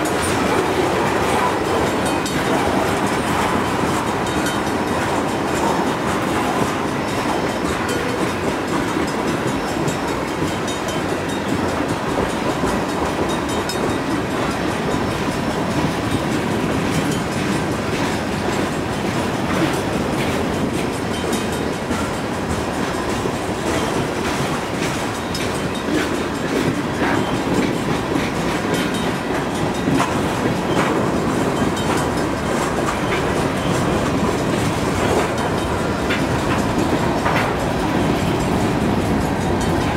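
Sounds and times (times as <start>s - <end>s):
freight train rolling past: 0.0s - 39.9s
wheels clacking over rail joints: 0.0s - 39.9s
wind noise on microphone: 0.0s - 39.9s.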